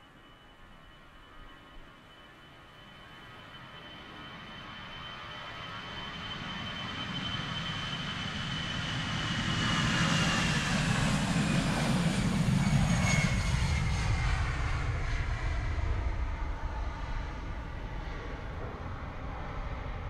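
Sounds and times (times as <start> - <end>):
aircraft flying over: 0.2 - 20.0.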